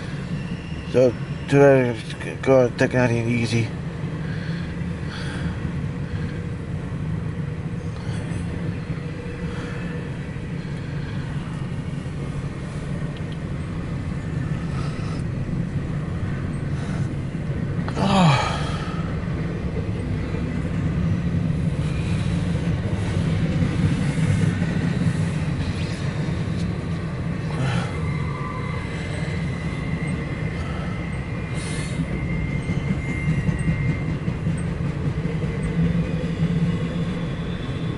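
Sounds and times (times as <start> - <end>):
freight train rumbling on rails: 0.0 - 37.9.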